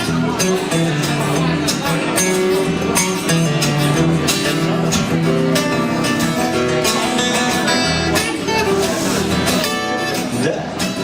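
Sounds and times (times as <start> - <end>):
guitars strumming and picking: 0.0 - 11.0
live band music: 0.0 - 11.0.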